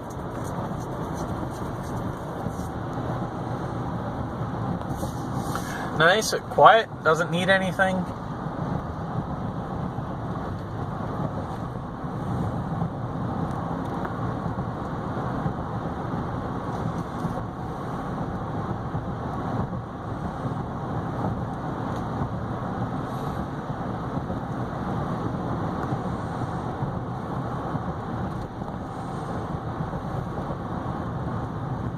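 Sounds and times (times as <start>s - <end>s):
road and tyre noise: 0.0s - 31.9s.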